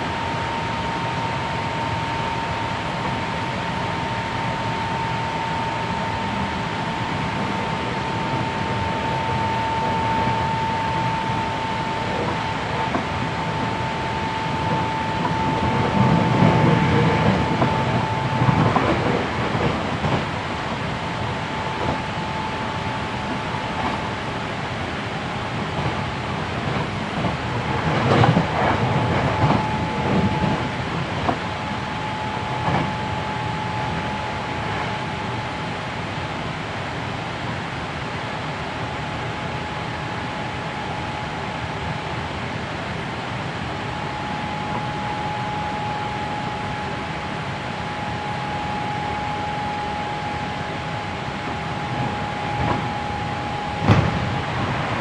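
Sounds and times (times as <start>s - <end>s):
thin steady tone: 0.0s - 36.7s, 38.3s - 55.0s
steady high whine: 0.0s - 55.0s
train wheel and rail rumble: 0.0s - 55.0s.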